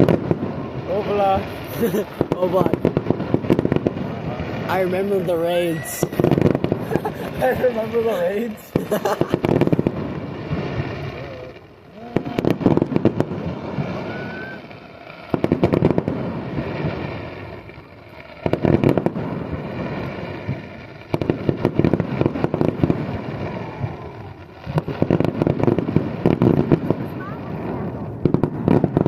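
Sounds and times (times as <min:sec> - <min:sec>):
fireworks crackling volleys: 0:00.0 - 0:29.0.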